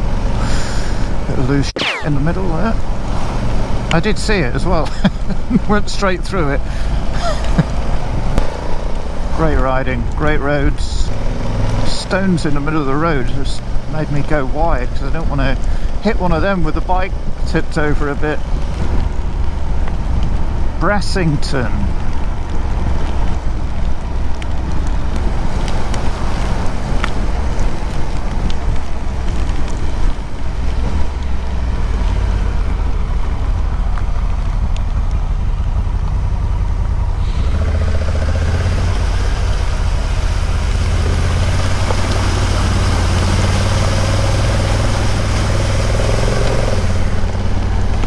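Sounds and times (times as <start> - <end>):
motorcycle engine rumble: 0.0 - 48.0.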